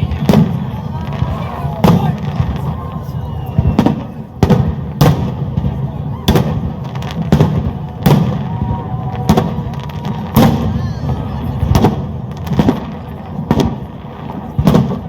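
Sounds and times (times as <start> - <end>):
fireworks bangs: 0.0 - 15.0
low rumble of explosions: 0.0 - 15.0.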